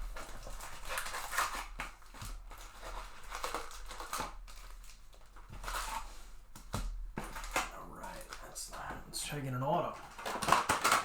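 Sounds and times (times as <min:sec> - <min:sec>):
cards being handled: 0:00.0 - 0:11.0
wrapper crinkling: 0:00.0 - 0:11.0.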